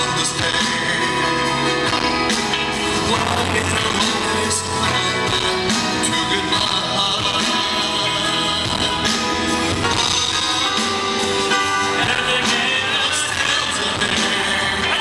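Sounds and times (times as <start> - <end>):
live pop band playing: 0.0 - 15.0
man singing into a microphone: 0.0 - 15.0.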